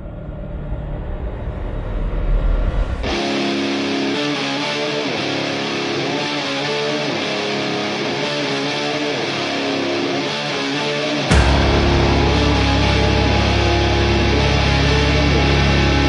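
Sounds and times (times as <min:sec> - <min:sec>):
guitar with bending held notes: 0:03.0 - 0:16.0.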